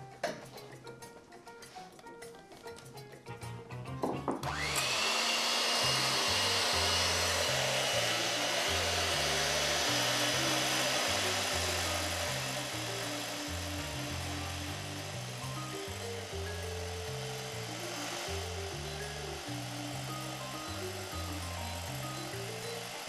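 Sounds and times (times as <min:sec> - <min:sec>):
electric hand mixer whine: 0:04.3 - 0:23.0.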